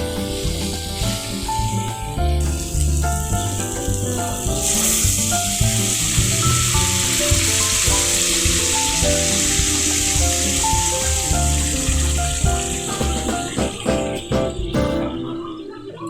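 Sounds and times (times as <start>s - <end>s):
food sizzling in a pan: 0.0s - 13.8s
background music with beat: 0.0s - 15.4s.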